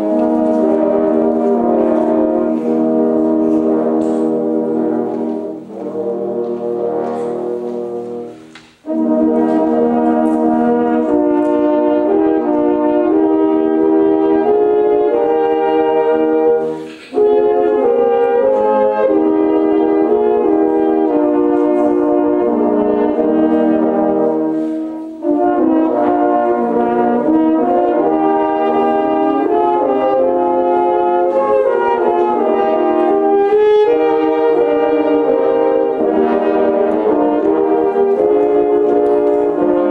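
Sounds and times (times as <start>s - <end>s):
french horn ensemble playing: 0.0s - 39.9s.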